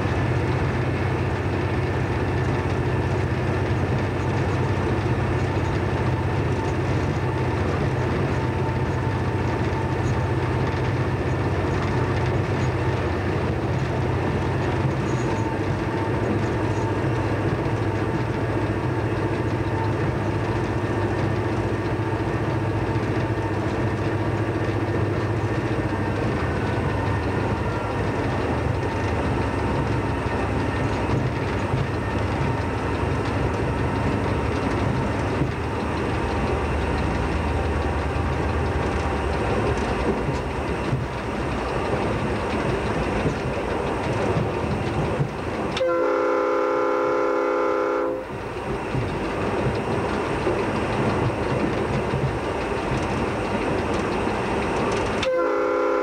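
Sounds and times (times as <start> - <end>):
wheels on rails: 0.0 - 46.0, 48.0 - 55.4
train engine running: 0.0 - 56.0.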